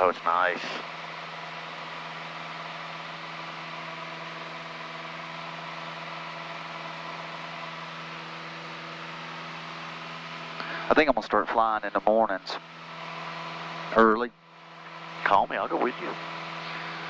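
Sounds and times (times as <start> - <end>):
propeller plane engine drone: 0.0 - 17.0.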